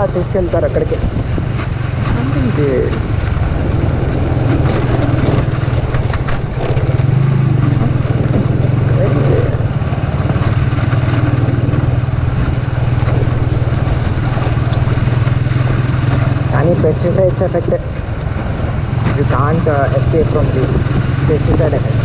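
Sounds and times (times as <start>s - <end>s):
motorcycle engine drone: 0.0s - 22.0s
road and wind noise: 0.0s - 22.0s.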